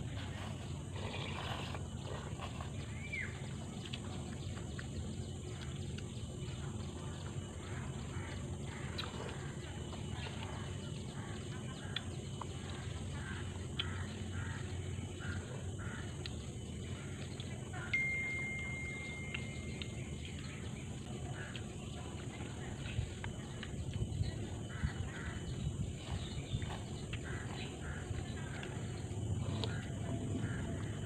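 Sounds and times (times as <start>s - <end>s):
bird chirp: 0.0s - 31.0s
faint eating noises: 0.0s - 31.0s
low outdoor rumble: 0.0s - 31.0s.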